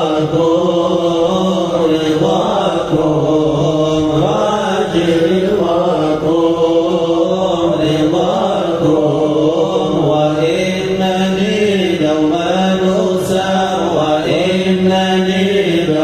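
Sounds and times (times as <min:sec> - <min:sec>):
voices chanting devotional song: 0:00.0 - 0:16.0.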